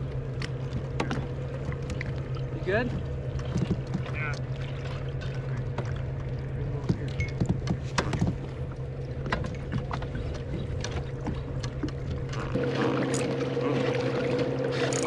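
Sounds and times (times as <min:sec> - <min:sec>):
steady low rumble: 0:00.0 - 0:14.8
paddles knocking against boats: 0:00.0 - 0:15.0
water slapping plastic hulls: 0:00.0 - 0:15.0.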